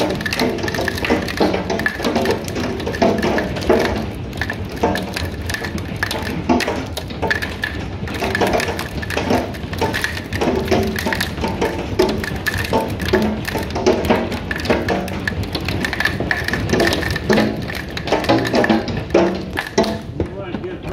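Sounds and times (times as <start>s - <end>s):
hail pelting wooden deck: 0.0s - 20.9s.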